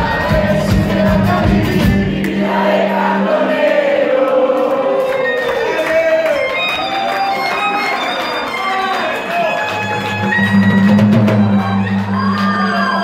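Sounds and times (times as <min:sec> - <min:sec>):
live band playing: 0:00.0 - 0:03.7, 0:04.3 - 0:13.0.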